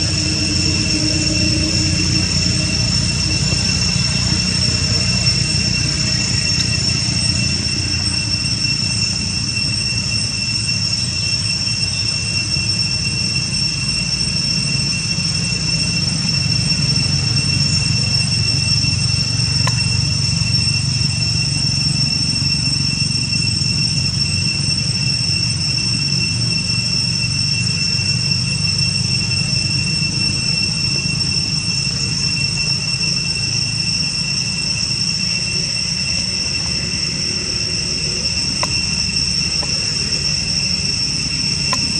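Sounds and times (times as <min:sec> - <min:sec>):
insects calling: 0:00.0 - 0:41.9.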